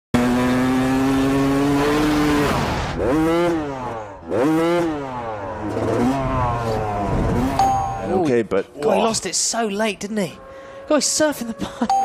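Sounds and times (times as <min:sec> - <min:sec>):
motorcycle engine revving: 0:00.2 - 0:08.4, 0:09.0 - 0:11.9.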